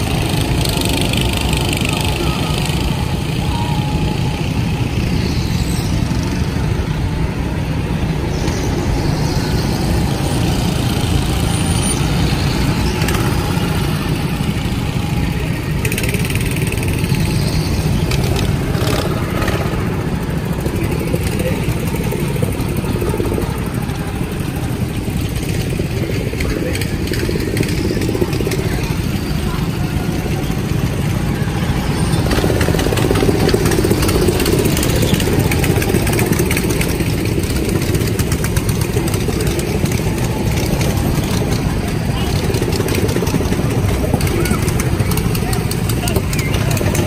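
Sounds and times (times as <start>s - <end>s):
go-kart engines droning: 0.0s - 47.0s.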